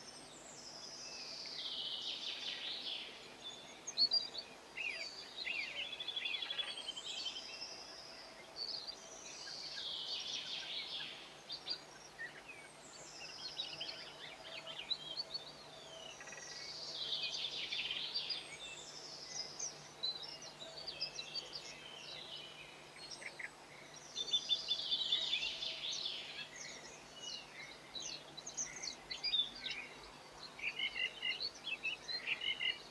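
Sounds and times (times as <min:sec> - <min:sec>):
small songbirds twittering: 0:00.0 - 0:32.9.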